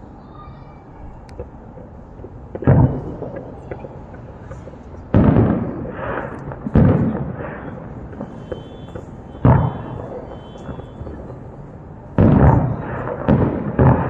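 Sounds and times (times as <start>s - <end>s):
fireworks booming: 1.0s - 14.0s.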